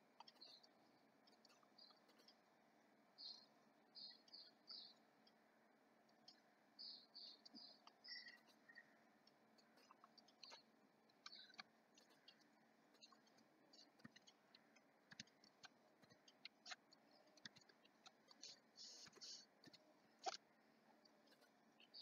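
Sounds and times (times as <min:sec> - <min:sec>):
computer mouse clicks: 0:00.0 - 0:02.6, 0:06.0 - 0:22.0.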